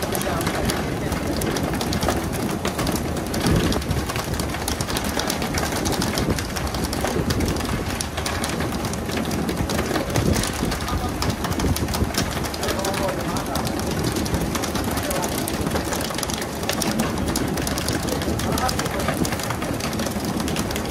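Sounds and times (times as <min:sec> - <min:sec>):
boat rumble: 0:00.0 - 0:20.9.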